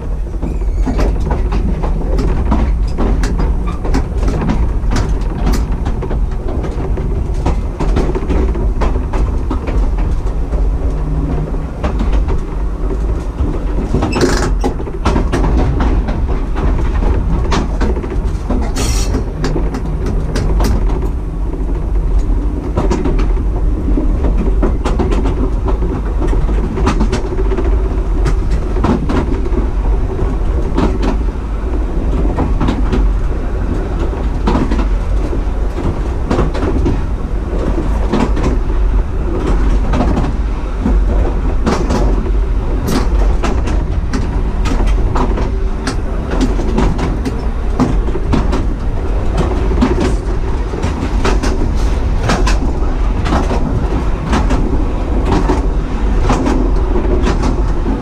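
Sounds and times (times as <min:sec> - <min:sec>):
tram wheels rumbling: 0:00.0 - 0:58.0
wheels clicking over rails: 0:00.0 - 0:58.0.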